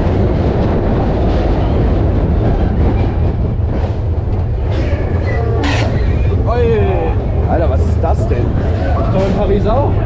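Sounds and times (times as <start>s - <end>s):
roller coaster wheels rumbling on rails: 0.0s - 10.0s.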